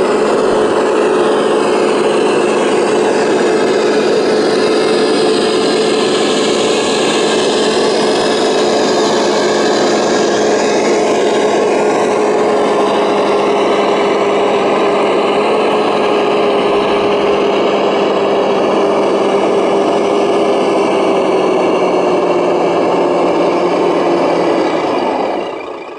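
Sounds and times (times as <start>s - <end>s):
electric motor whining: 0.0s - 25.9s.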